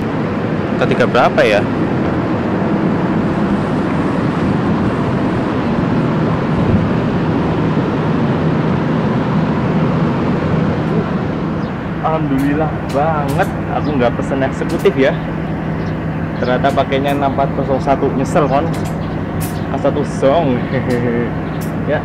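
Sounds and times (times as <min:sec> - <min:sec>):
diesel train engine idling: 0:00.0 - 0:22.0.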